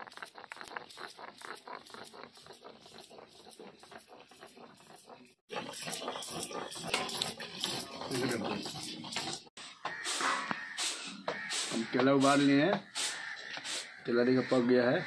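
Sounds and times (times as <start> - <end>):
stone grinding spices: 0.0 - 13.9.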